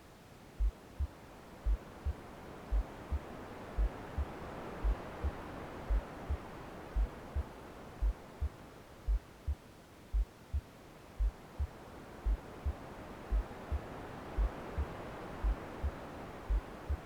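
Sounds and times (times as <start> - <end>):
soft white noise hiss: 0.0 - 17.0
slow heartbeat thumps: 0.6 - 17.0.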